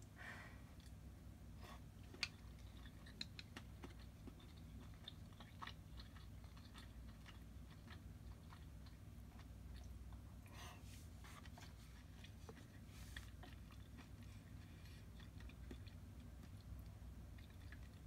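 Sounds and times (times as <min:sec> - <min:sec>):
crunchy chewing close-up: 0:01.6 - 0:18.0.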